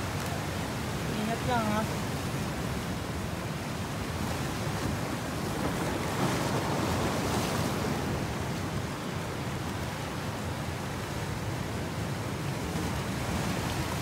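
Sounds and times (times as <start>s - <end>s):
sea waves washing: 0.0s - 14.0s.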